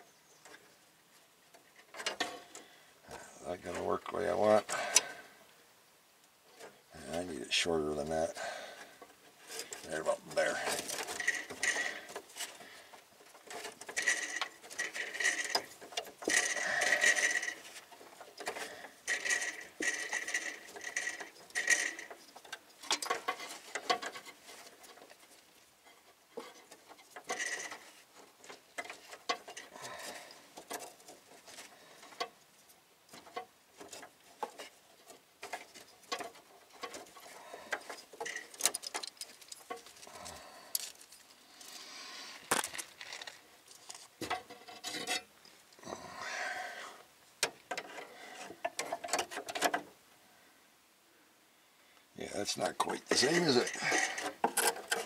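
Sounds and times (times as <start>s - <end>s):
brake line scraping and clicking: 6.5s - 49.9s, 52.3s - 55.0s.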